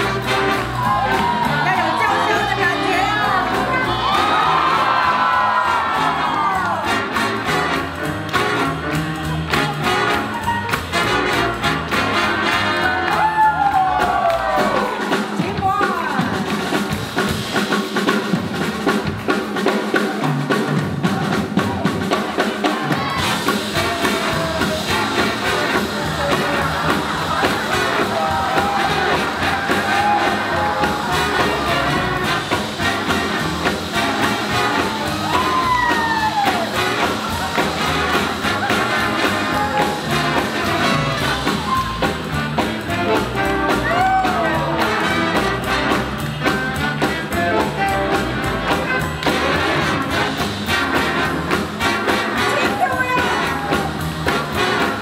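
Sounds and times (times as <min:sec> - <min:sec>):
swing jazz band playing: 0:00.0 - 0:55.0.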